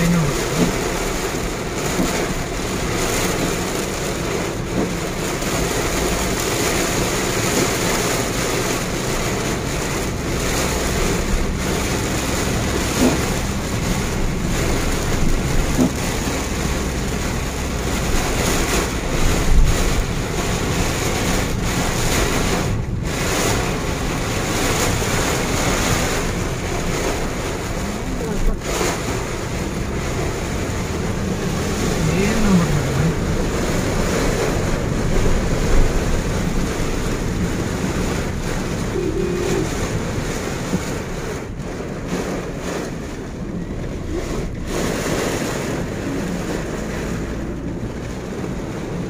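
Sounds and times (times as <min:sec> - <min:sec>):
heavy rain on car roof: 0:00.0 - 0:49.0.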